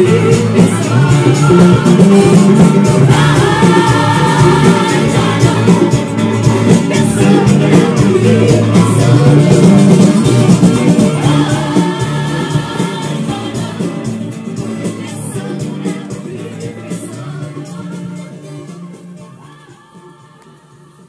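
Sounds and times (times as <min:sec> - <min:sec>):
disco-funk song with woman singing: 0:00.0 - 0:21.0.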